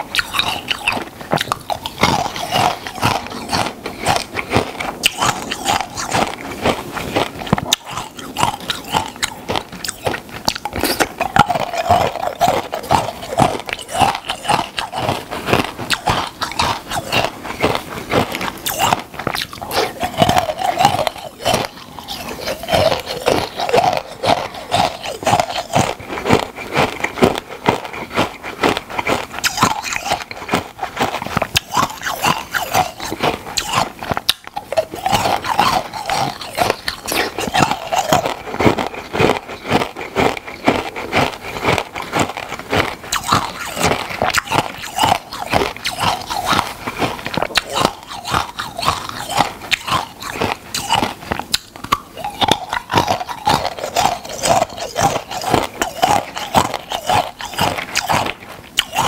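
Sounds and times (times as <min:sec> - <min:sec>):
chewing and crunching ice: 0:00.0 - 0:59.0.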